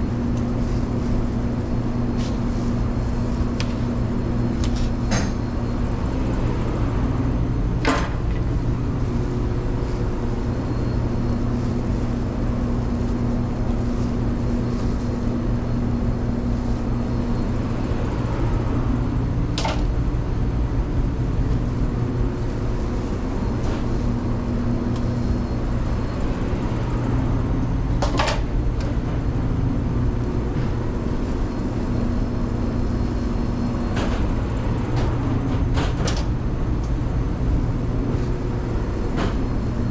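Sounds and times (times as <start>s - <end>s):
kitchen equipment droning: 0.0s - 39.9s.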